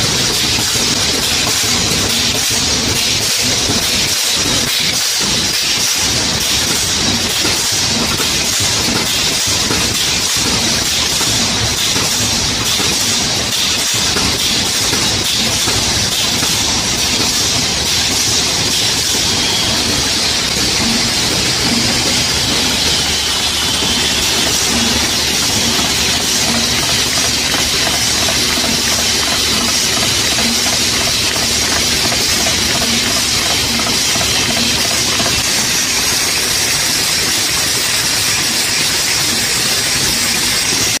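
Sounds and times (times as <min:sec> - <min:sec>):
machinery noise: 0:00.0 - 0:41.0
steady loud hiss: 0:00.0 - 0:41.0.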